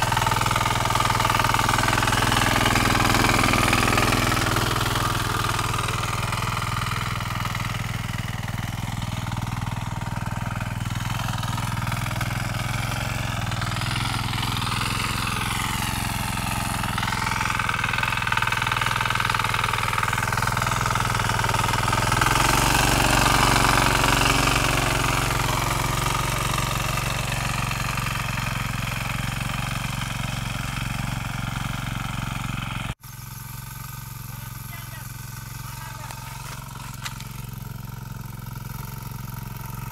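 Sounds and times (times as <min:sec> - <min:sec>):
power tiller diesel engine: 0:00.0 - 0:39.9.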